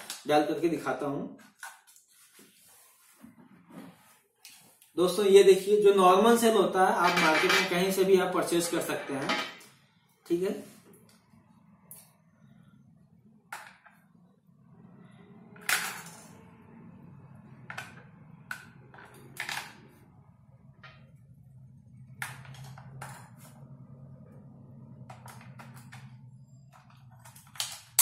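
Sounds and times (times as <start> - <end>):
faint low hum: 5.4 - 27.9.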